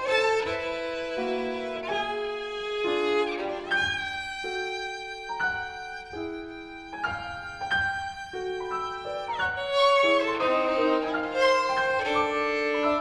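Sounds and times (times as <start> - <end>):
piano notes: 0.0 - 13.0
violin: 0.0 - 13.0.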